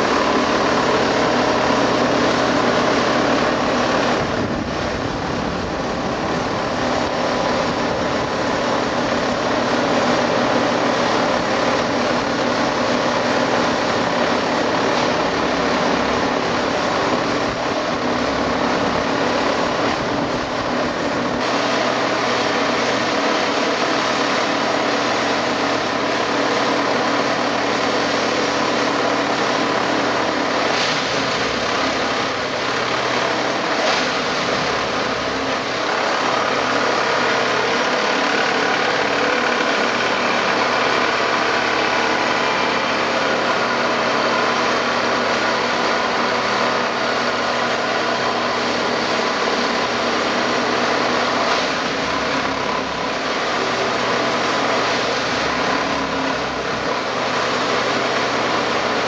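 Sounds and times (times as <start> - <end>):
track tamping machine running: 0.0 - 59.0.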